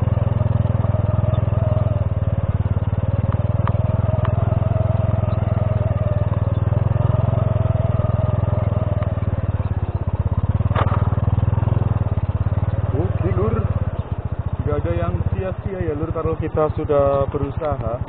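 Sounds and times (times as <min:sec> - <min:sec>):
motorcycle engine running: 0:00.0 - 0:18.0
tyres on gravel: 0:00.1 - 0:18.0.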